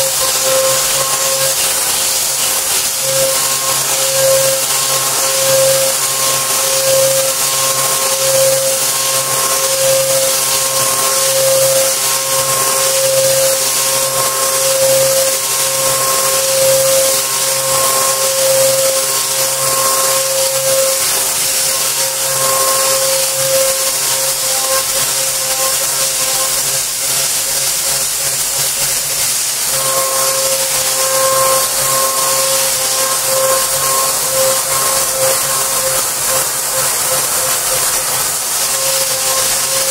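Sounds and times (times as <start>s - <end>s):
milling machine cutting whine: 0.0s - 39.9s.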